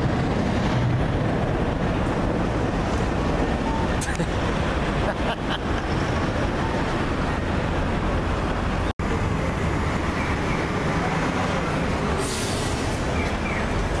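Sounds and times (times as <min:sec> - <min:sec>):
city traffic rumble: 0:00.0 - 0:14.0
elevated railway rumble: 0:00.0 - 0:14.0.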